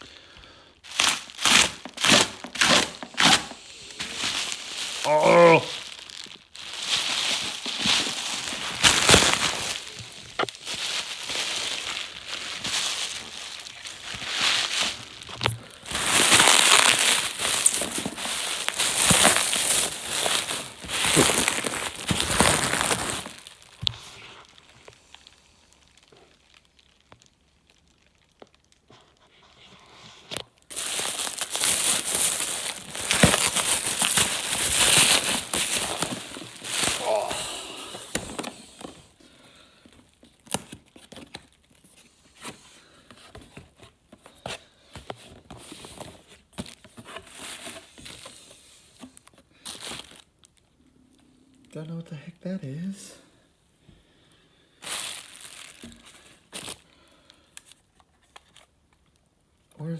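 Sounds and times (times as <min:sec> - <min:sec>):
packing material crinkling: 0:00.8 - 0:51.8, 0:54.7 - 0:59.9.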